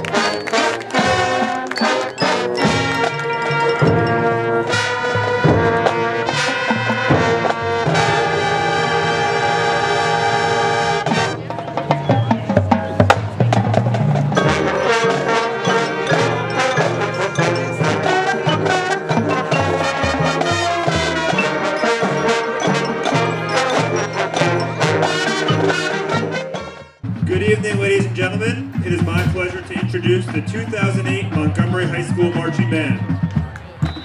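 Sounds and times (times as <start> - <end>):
drums and percussion hits: 0.0 - 9.1, 10.6 - 34.0
brass chords: 0.0 - 33.2.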